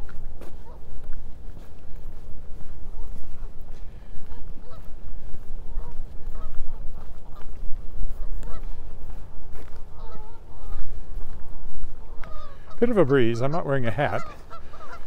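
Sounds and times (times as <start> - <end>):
wind rumble on microphone: 0.0 - 12.8
geese honking: 0.0 - 15.0.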